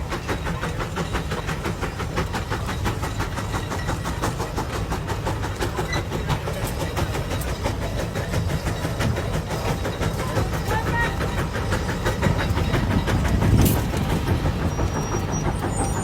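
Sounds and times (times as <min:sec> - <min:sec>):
steam engine exhaust chuffing: 0:00.0 - 0:16.0.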